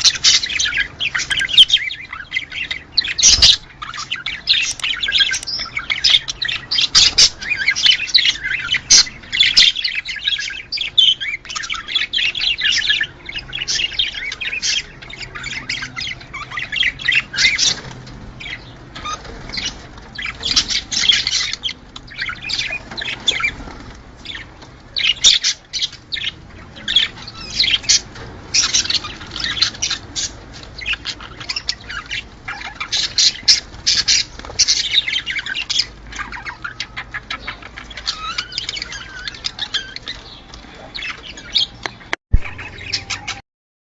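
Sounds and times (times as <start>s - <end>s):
budgerigars chattering: 0.0s - 43.4s.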